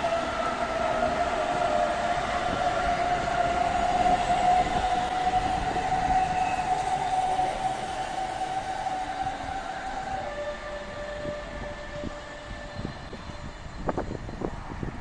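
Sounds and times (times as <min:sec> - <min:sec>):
electric train motor whine: 0:00.0 - 0:15.0
wheels rumbling on rail: 0:00.0 - 0:15.0.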